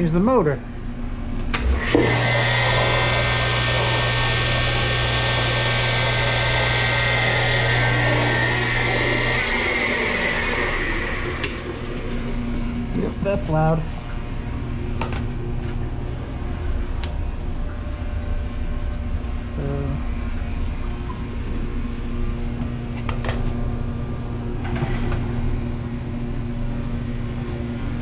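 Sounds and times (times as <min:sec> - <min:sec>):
dishwasher motor hum and rumble: 0:00.0 - 0:28.0.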